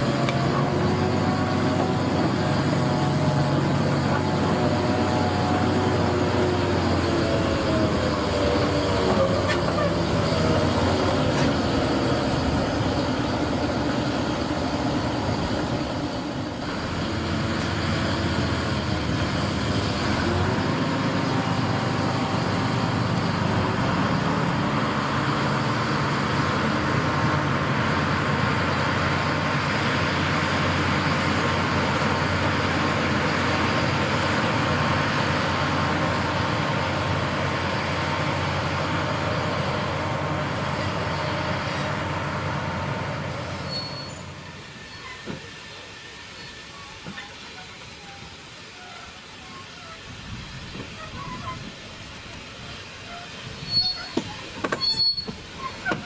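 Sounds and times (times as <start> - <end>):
locomotive engine drone: 0.0 - 56.0
train hiss: 0.0 - 56.0.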